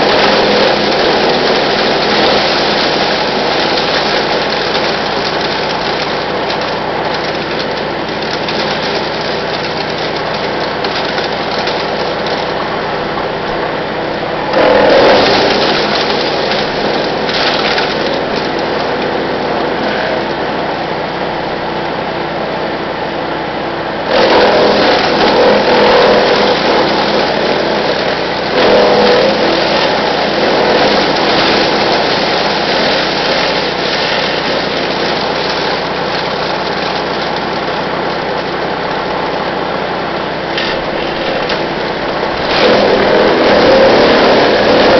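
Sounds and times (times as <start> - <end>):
branches grinding and crunching: 0.0 - 20.6, 24.1 - 44.9
wood chipper engine running: 0.0 - 44.9.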